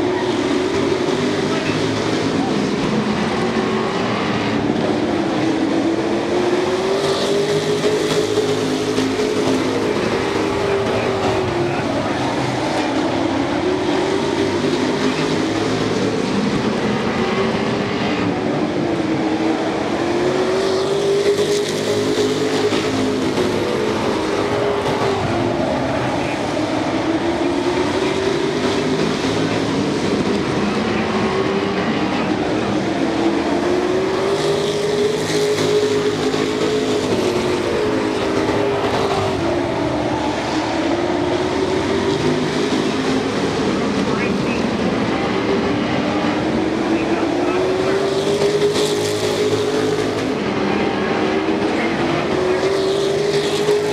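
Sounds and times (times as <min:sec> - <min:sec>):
race truck engines: 0:00.0 - 0:53.9.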